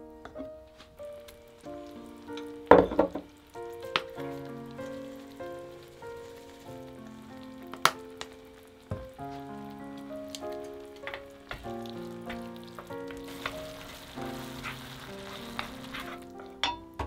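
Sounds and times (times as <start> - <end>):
light background music: 0.0 - 17.0
noodles sizzling in a frying pan: 0.8 - 17.0.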